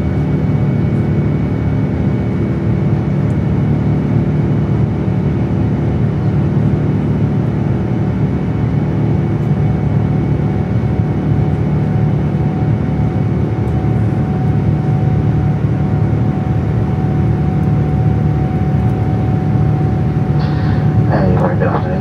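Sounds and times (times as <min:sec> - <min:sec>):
deep jet engine rumble: 0:00.0 - 0:22.0
thin steady whine: 0:00.0 - 0:22.0.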